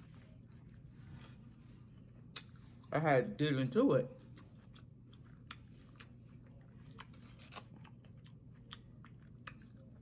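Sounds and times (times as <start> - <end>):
person chewing: 0.4 - 2.9, 4.2 - 10.0.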